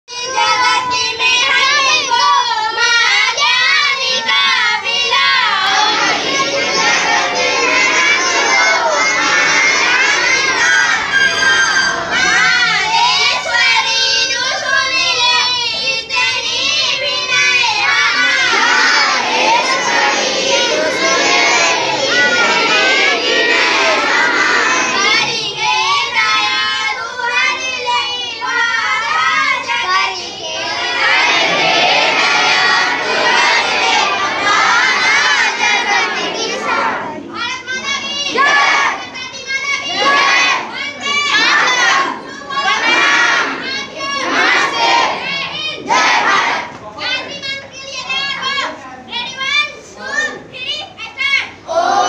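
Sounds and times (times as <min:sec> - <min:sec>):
children singing a prayer: 0:00.1 - 0:52.0.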